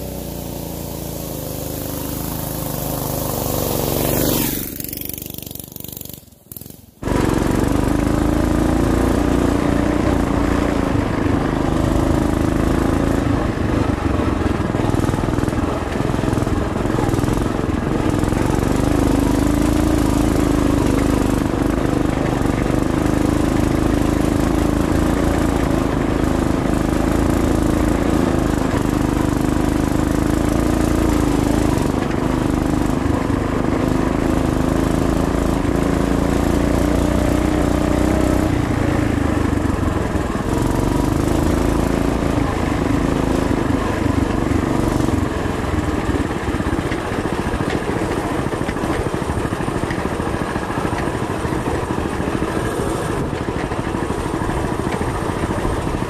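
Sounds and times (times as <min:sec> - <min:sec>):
mini bike engine running: 0:00.0 - 0:56.0.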